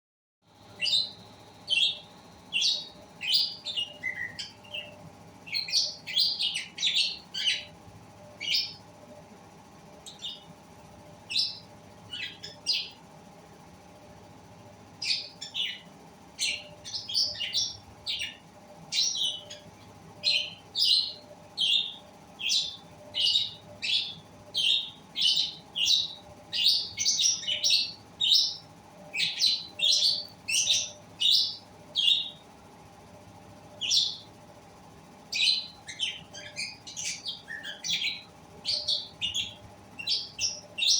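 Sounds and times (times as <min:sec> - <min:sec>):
faint steady hum: 0:00.4 - 0:40.9
lovebirds chirping: 0:00.6 - 0:09.0, 0:10.0 - 0:13.0, 0:15.0 - 0:32.4, 0:33.8 - 0:34.3, 0:35.3 - 0:40.9.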